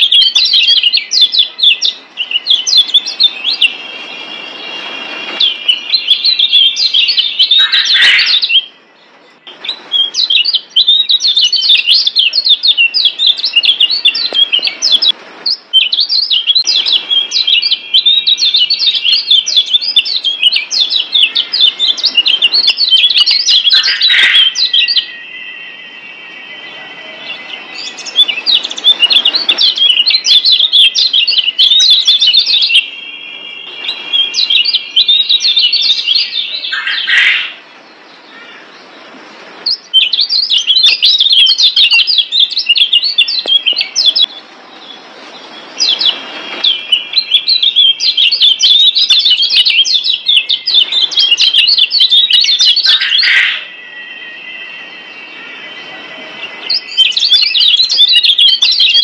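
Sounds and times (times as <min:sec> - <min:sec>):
high twittering bird chatter: 0:00.0 - 0:59.0
high whistled bird notes: 0:00.0 - 0:59.0.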